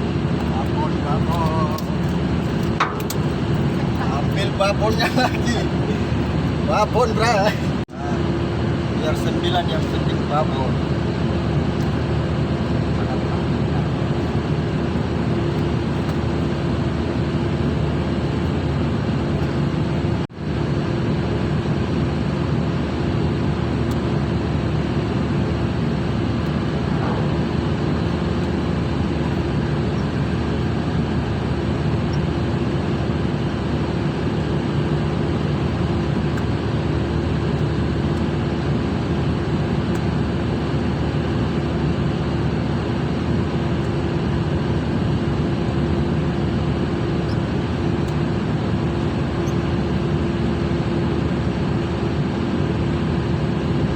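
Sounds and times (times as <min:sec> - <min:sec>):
ship machinery drone: 0:00.0 - 0:53.9.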